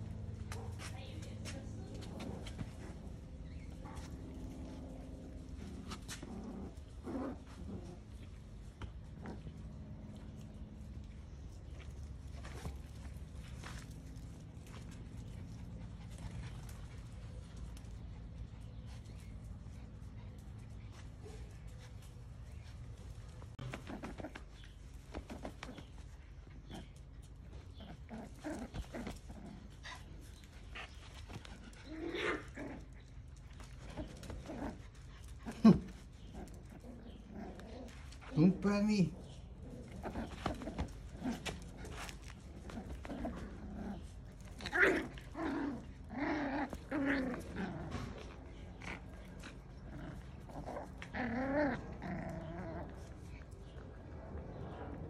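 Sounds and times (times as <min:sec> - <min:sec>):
puppy play noises: 0:00.0 - 0:55.0.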